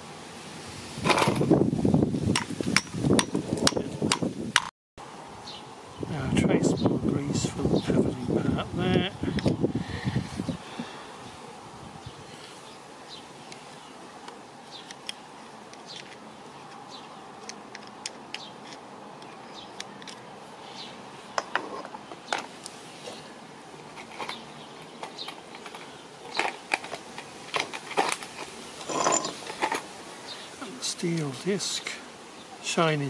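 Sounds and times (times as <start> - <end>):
faint background noise: 0.0 - 33.0.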